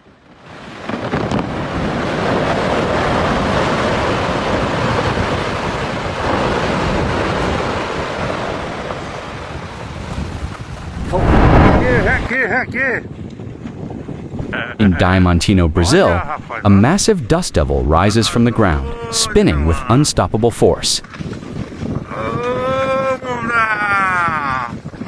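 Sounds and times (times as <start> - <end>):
strong wind buffeting microphone: 0.8 - 25.0.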